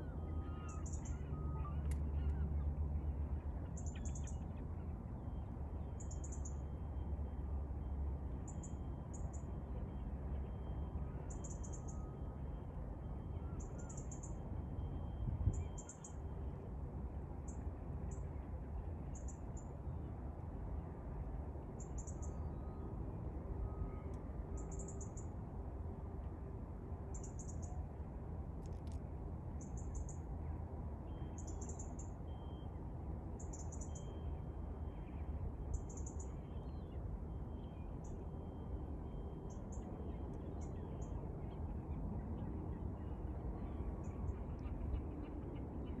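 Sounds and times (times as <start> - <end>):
low outdoor rumble: 0.0 - 46.0.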